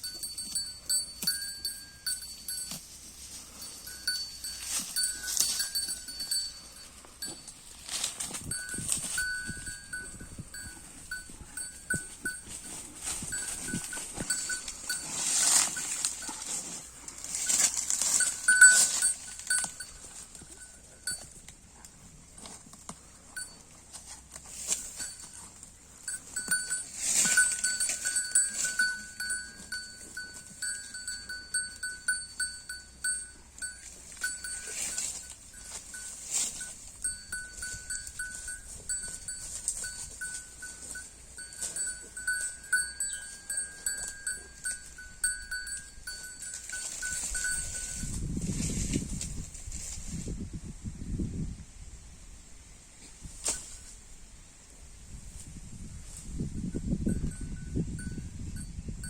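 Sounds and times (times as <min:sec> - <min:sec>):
faint high ringing: 0:00.0 - 0:21.4, 0:23.0 - 0:48.6, 0:56.7 - 0:59.0
cow chewing grass: 0:00.0 - 0:50.0.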